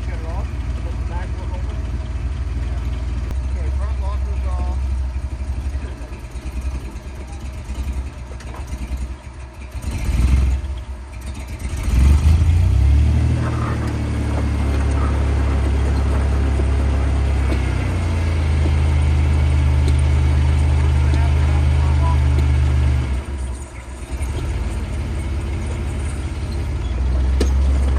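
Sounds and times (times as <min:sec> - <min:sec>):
off-road vehicle engine revving: 0:00.0 - 0:27.9.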